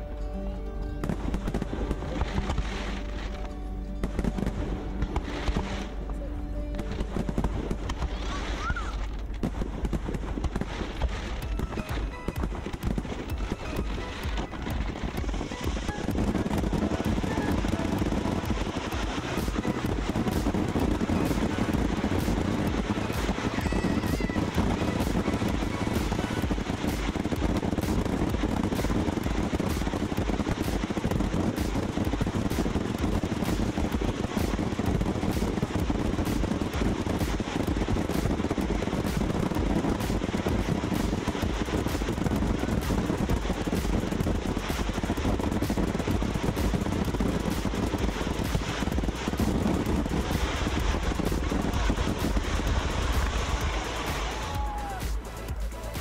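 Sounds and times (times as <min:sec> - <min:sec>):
fireworks crackling: 0:01.0 - 0:06.1, 0:06.8 - 0:56.0.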